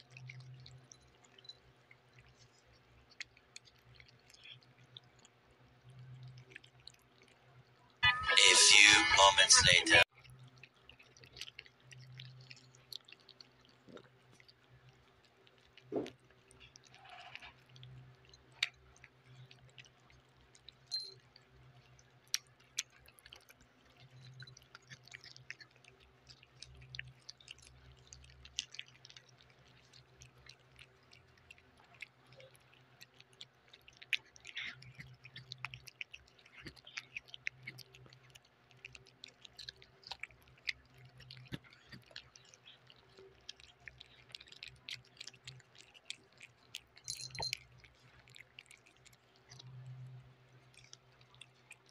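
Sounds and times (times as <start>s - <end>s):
cats chewing and smacking: 0.0s - 51.9s.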